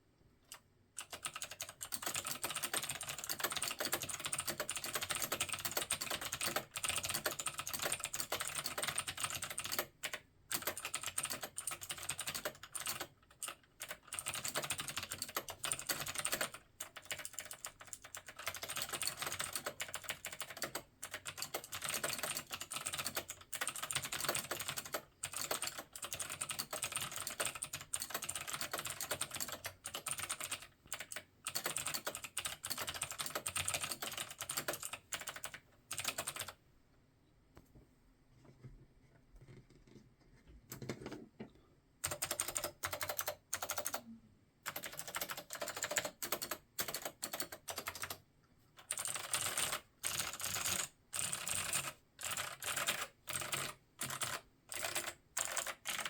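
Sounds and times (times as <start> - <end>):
fast mechanical keyboard typing: 1.0 - 36.6, 42.0 - 44.0, 44.6 - 48.2, 48.8 - 56.0.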